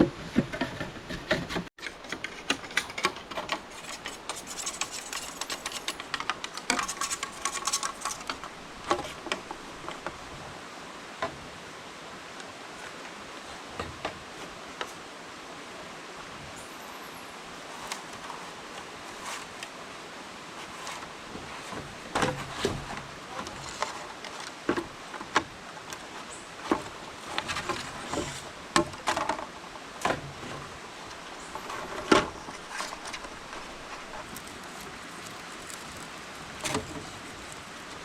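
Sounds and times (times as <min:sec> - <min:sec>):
steady background hiss: 0:01.9 - 0:38.0.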